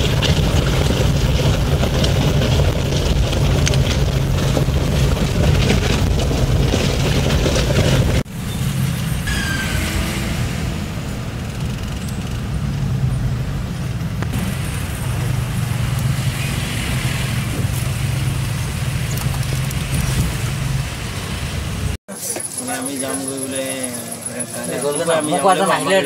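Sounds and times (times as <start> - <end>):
car engine hum: 0.0 - 25.0
tyres rumbling on road: 0.0 - 26.0.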